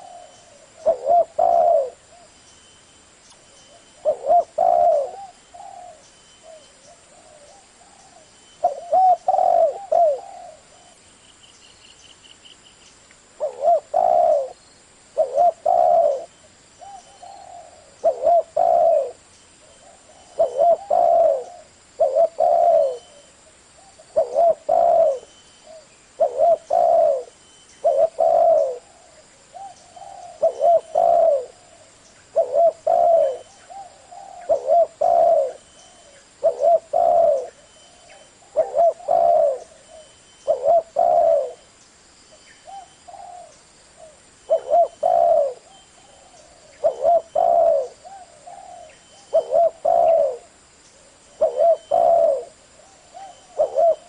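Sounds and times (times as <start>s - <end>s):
dove cooing: 0.0s - 2.4s, 3.7s - 11.0s, 13.4s - 41.7s, 42.6s - 54.0s.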